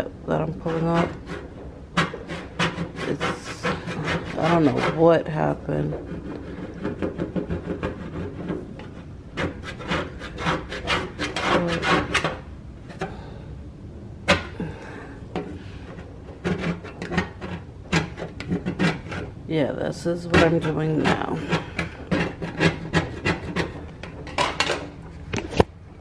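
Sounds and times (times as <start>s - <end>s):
plastic scraper scraping stovetop: 0.4s - 13.3s, 14.3s - 25.7s.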